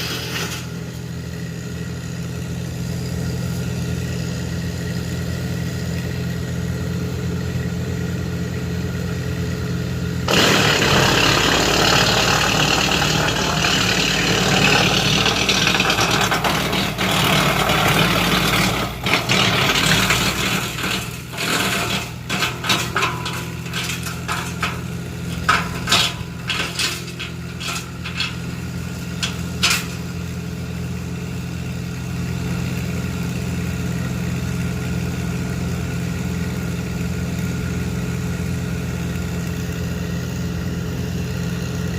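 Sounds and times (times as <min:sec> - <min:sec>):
wood chipper grinding brush: 0:00.0 - 0:41.7
tractor engine running: 0:00.0 - 0:41.9.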